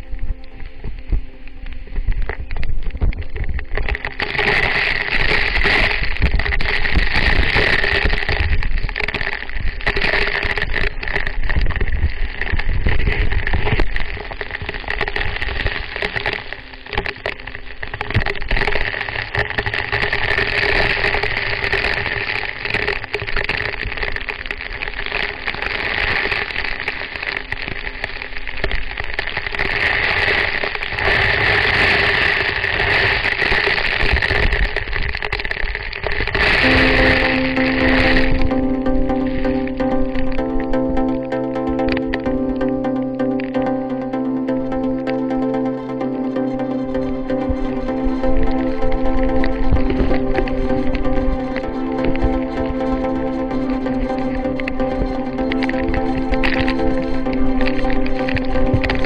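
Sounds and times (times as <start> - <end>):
waterfall rushing and splashing: 0.0 - 59.0.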